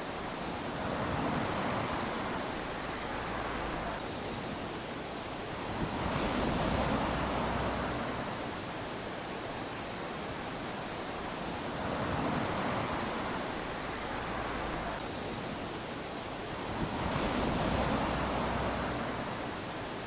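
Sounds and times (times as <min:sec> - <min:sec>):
small waves lapping on a shore: 0:00.0 - 0:20.0.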